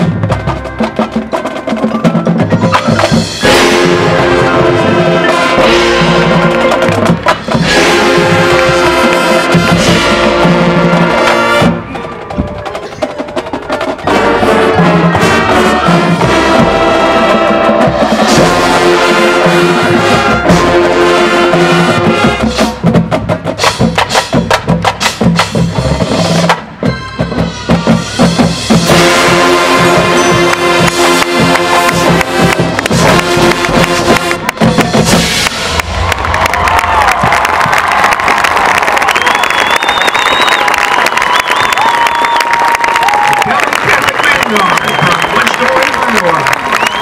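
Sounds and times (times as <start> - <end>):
marching band playing: 0.0 - 47.0
rapid accented percussion: 0.0 - 47.0.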